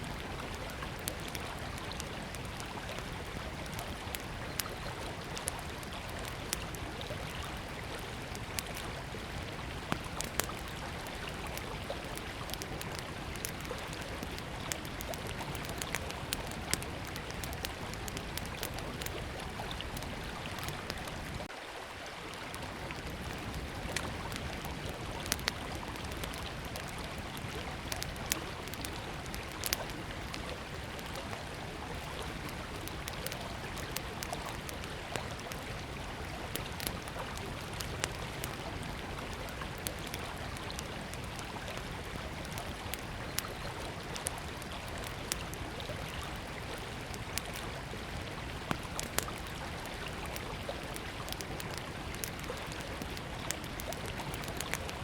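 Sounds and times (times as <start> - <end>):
campfire crackling: 0.0 - 21.5, 22.1 - 55.0
river water flowing: 0.0 - 55.0.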